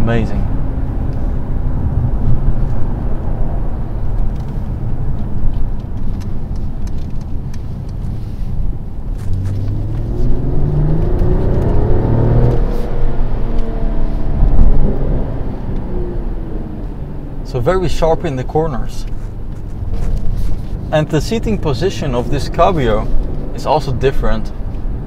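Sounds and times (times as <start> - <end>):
car engine accelerating: 0.0 - 25.0
low road rumble: 0.0 - 25.0.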